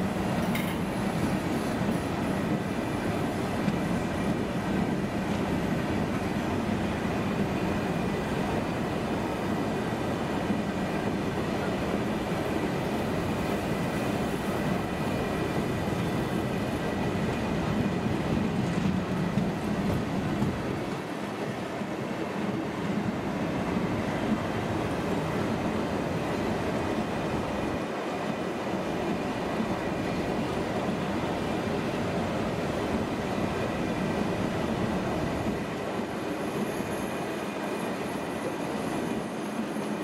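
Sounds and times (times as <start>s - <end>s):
freight train wheels rumbling on rails: 0.0s - 40.0s.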